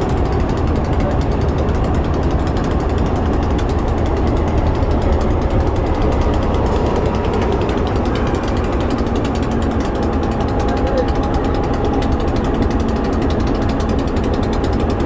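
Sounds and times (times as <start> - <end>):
diesel locomotive engine rumbling: 0.0 - 15.0
rapid even clatter: 0.0 - 15.0.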